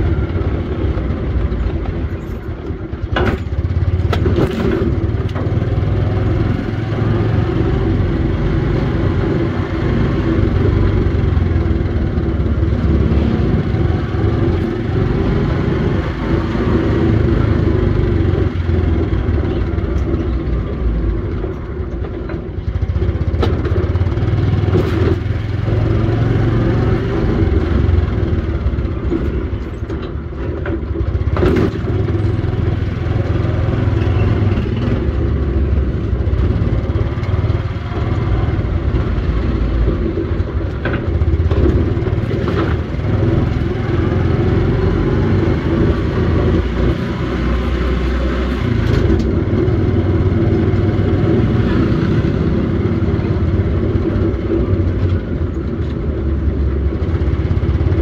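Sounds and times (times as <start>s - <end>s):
road noise: 0.0s - 58.0s
vehicle engine running: 0.0s - 58.0s.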